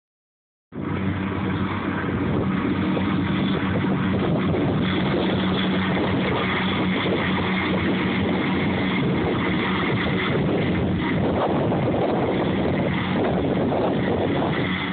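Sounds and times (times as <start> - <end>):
tractor and mower running: 0.8 - 14.9.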